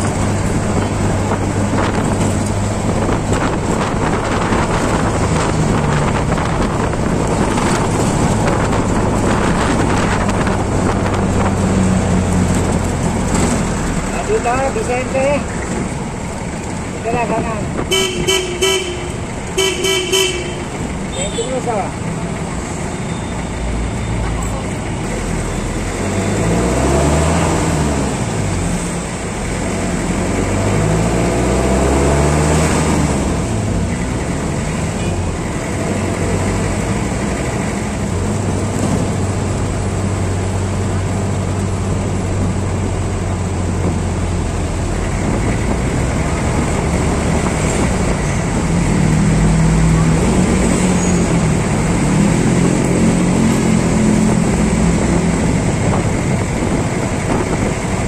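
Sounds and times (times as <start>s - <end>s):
diesel engine accelerating: 0.0s - 58.0s
street traffic: 0.0s - 58.0s.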